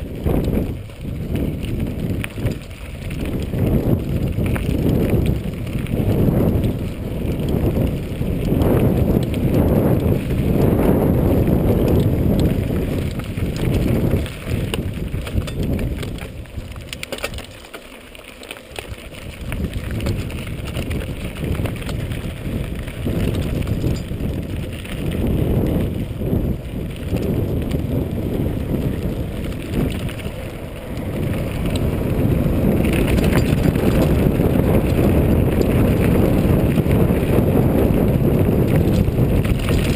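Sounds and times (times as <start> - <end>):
tyres crunching over stones: 0.0 - 10.6, 11.4 - 37.3
wind rumble on microphone: 0.0 - 17.7, 18.7 - 39.9
bike frame rattling: 0.0 - 39.9.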